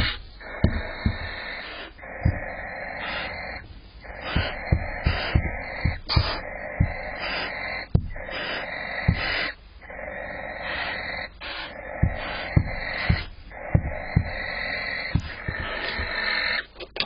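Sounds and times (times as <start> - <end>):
owl stomping on wooden box: 0.0 - 16.6
owls hissing calls: 0.0 - 16.7.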